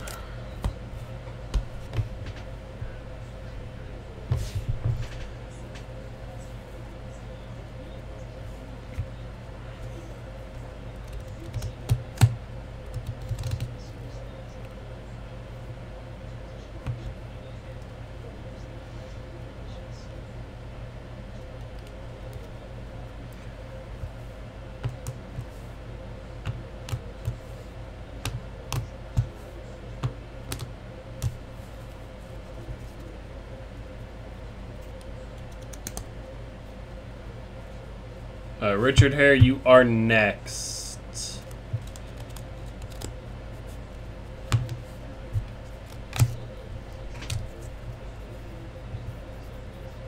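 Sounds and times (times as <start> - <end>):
background hum: 0.0 - 50.0.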